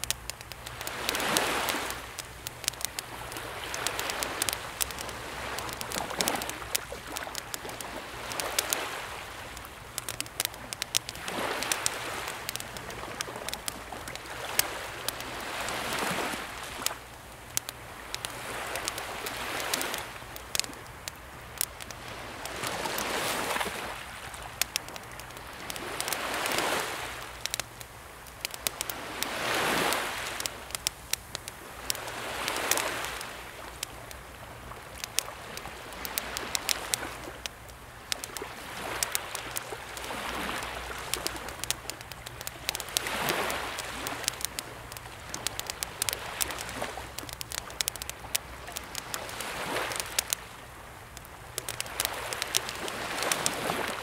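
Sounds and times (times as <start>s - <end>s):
calm sea waves: 0.0s - 54.0s
campfire crackling and popping: 0.0s - 54.0s.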